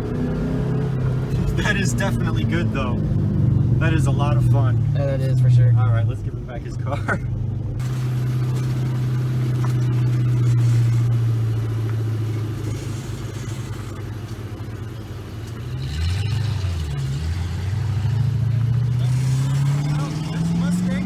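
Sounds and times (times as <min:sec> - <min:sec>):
car engine droning while driving: 0:00.0 - 0:21.0.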